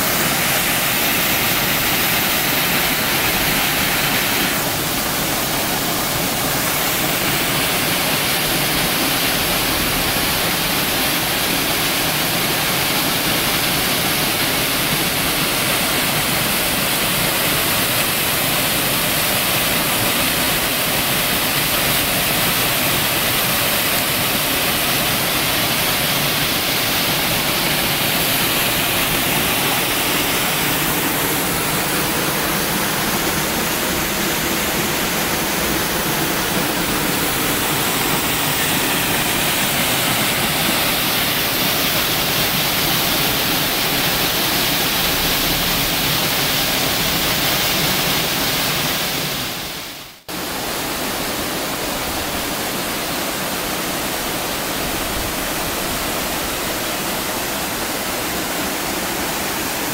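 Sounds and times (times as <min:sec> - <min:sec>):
waterfall rushing into a pool: 0:00.0 - 0:59.9.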